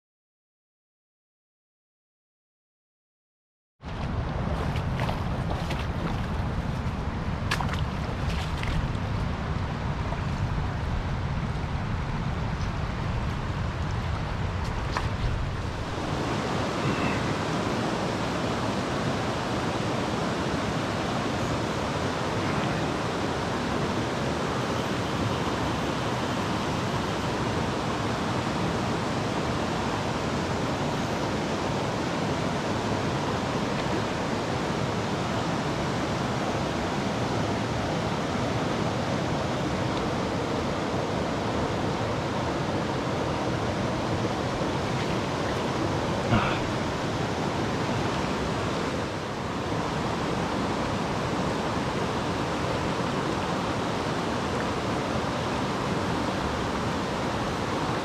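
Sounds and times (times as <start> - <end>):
river water rushing over rocks: 3.9 - 58.0.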